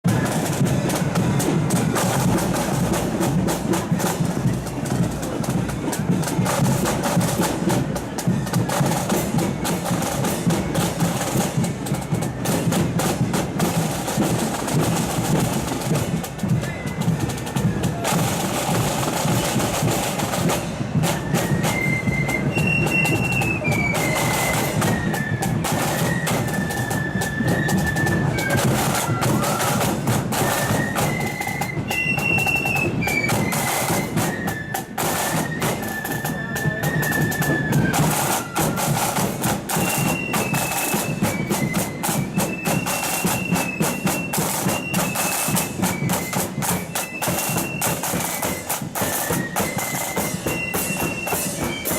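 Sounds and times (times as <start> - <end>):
flutes playing melody: 0.1 - 51.9
snare drum strokes: 0.1 - 51.9.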